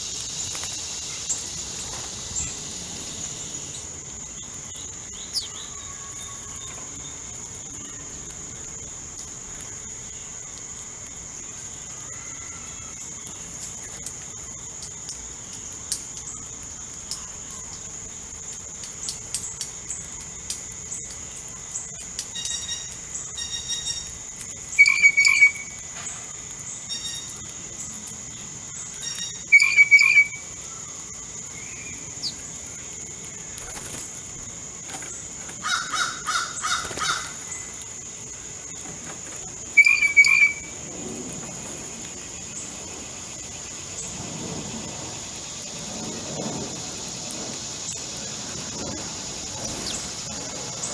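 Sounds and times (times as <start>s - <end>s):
high-pitched insect drone: 0.0s - 50.9s.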